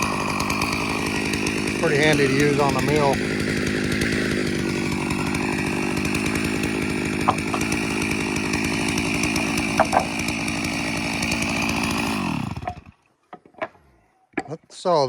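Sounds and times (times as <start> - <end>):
chainsaw milling a log: 0.0 - 14.6.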